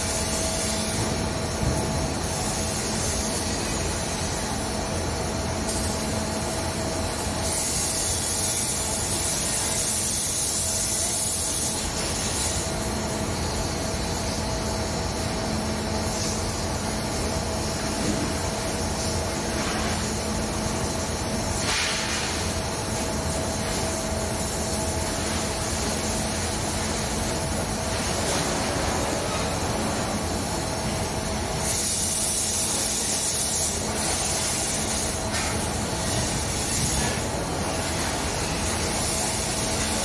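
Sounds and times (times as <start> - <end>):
edge-rolling machine humming: 0.0 - 40.0.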